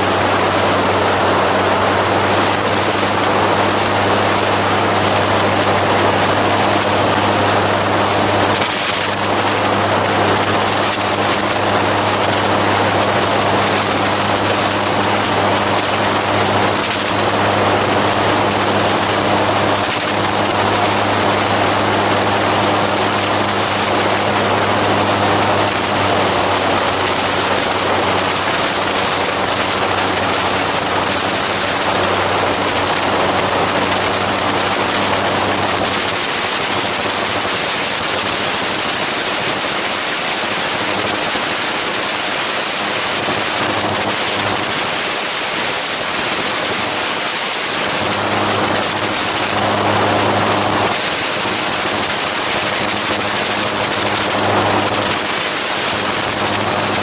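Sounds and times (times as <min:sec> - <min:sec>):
engine and propeller drone: 0:00.0 - 0:57.0.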